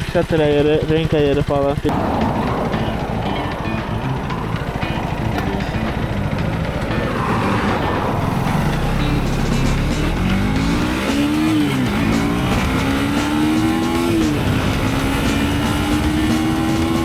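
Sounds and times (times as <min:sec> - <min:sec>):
motorcycle engine accelerating: 0:01.9 - 0:17.0
rushing wind: 0:01.9 - 0:17.0.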